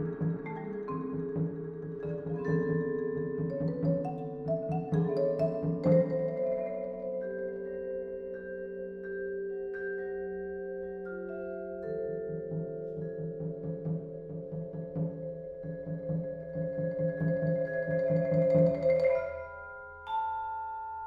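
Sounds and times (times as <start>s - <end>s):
marimba vibraphone and hand drums: 0.0s - 21.0s.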